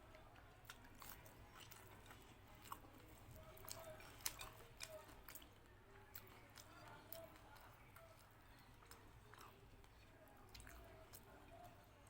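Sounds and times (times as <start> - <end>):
person chewing food: 0.1 - 11.8.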